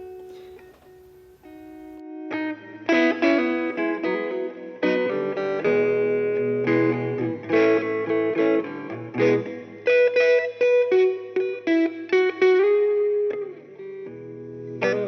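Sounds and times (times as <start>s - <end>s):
guitar plucking and strumming: 0.0s - 15.0s.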